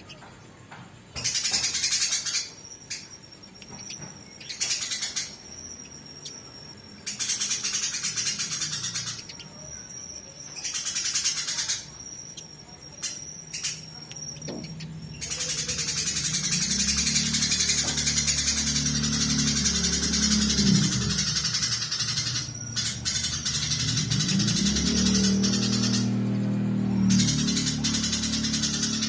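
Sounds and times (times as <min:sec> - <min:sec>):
sparrows chattering harshly: 0:00.0 - 0:29.0
high whistled bird notes: 0:01.2 - 0:29.0
low hum: 0:02.4 - 0:29.0.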